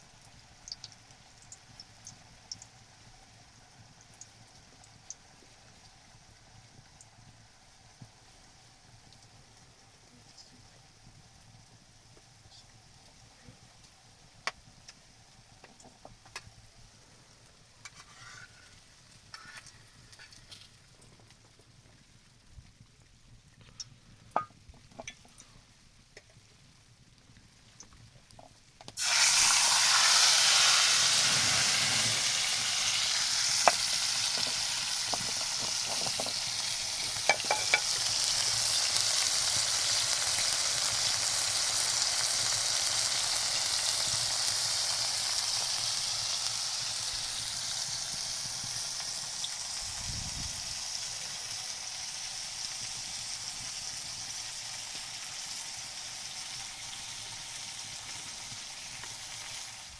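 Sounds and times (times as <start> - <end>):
food sizzling in a pan: 0.0 - 21.8, 27.7 - 59.9.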